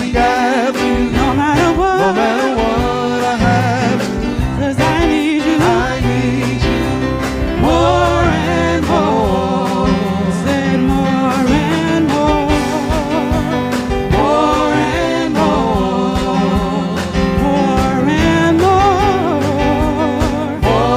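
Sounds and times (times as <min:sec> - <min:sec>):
women singing in harmony: 0:00.0 - 0:13.5, 0:14.1 - 0:20.9
keyboard accompaniment: 0:00.0 - 0:20.9.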